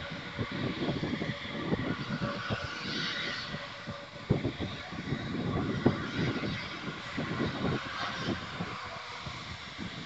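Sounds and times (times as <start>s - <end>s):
distant jet engines whining: 0.0s - 10.0s
wind buffeting microphone: 0.0s - 10.0s.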